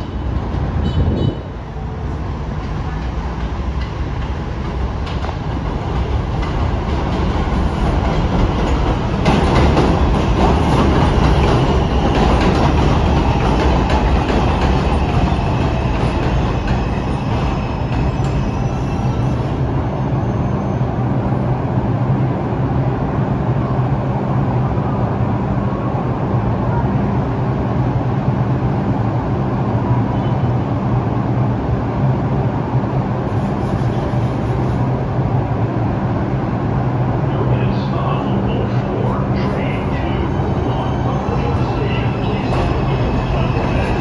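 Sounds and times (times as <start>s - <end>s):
subway train motors whining: 0.0s - 44.0s.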